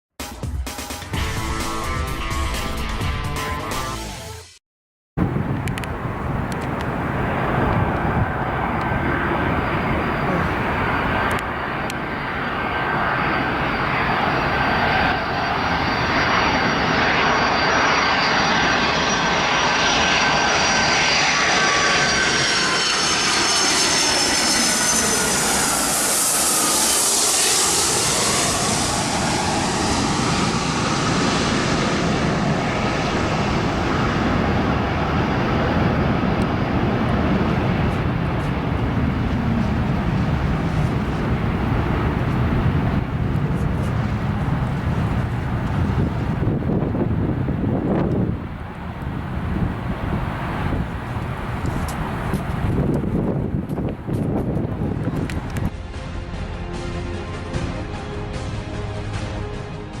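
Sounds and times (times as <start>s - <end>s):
jet airliner passing: 5.2s - 60.0s.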